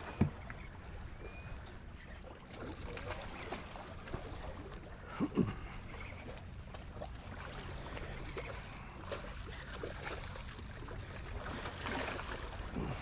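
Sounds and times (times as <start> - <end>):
wind and water hiss: 0.0 - 13.0.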